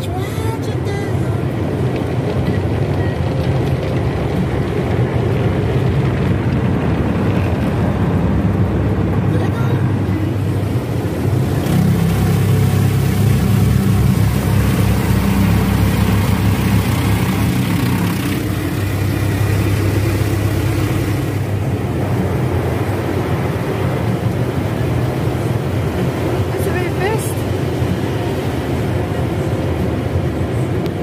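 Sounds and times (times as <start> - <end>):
car wash machinery rumble: 0.0 - 31.0
water spraying over car: 0.0 - 31.0.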